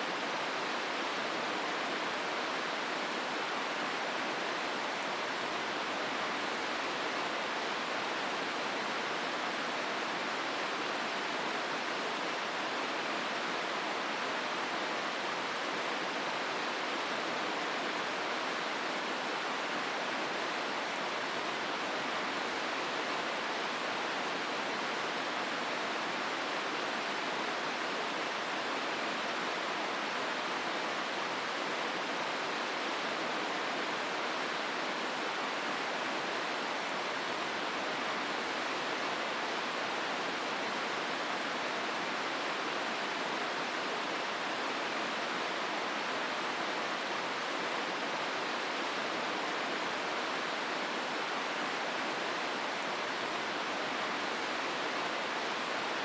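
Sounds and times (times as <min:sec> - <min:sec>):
river water rushing over rapids: 0:00.0 - 0:56.0.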